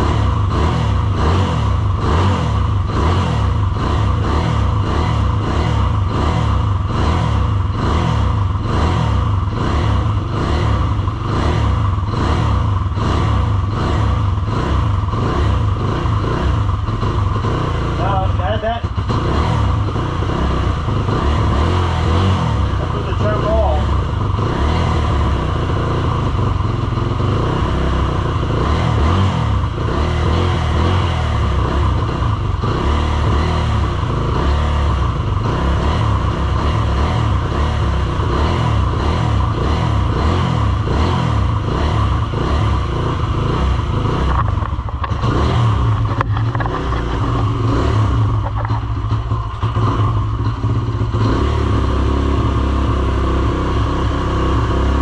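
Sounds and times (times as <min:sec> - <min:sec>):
motorcycle engine running unevenly: 0:00.0 - 0:55.0.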